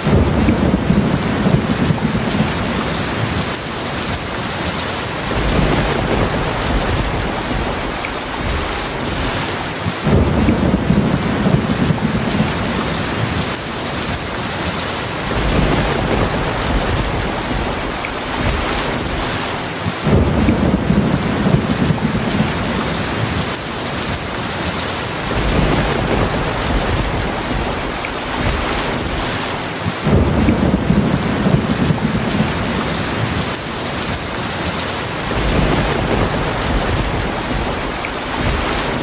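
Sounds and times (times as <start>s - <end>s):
heavy rain falling: 0.0s - 39.0s
thunder rumbling: 0.0s - 39.0s.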